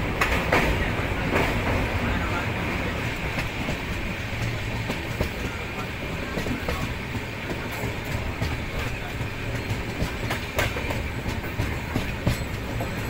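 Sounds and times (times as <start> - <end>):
train rumbling on track: 0.0 - 13.0
wheels clacking over rails: 0.0 - 13.0.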